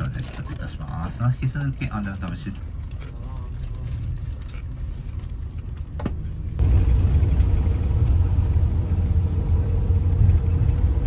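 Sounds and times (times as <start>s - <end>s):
vehicle rumble from inside cabin: 0.0s - 11.0s.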